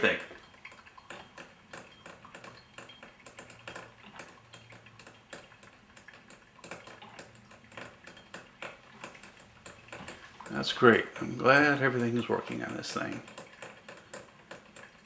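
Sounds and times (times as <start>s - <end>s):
coffee dripping: 0.0s - 15.0s
coffee maker ticking and crackling: 0.0s - 15.0s.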